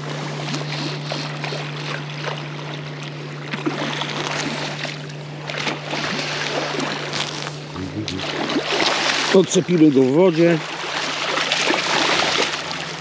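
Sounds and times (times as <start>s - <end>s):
boat motor humming: 0.0s - 13.0s
water rushing and splashing: 0.7s - 7.1s, 7.8s - 13.0s.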